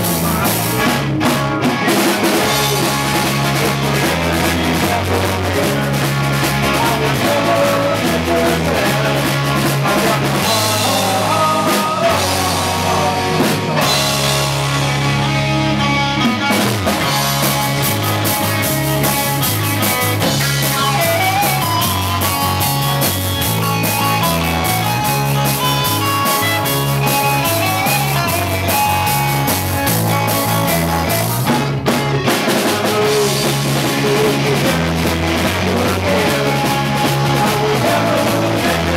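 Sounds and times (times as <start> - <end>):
bass line: 0.0 - 38.9
drum kit: 0.0 - 38.9
electric guitars: 0.0 - 38.9.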